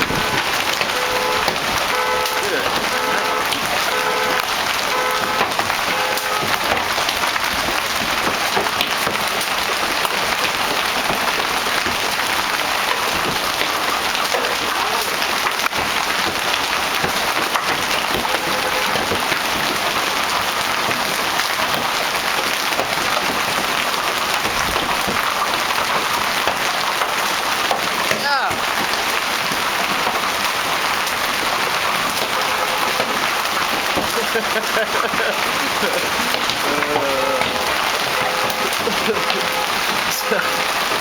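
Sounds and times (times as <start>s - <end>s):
hail and heavy rain pelting: 0.0s - 41.0s.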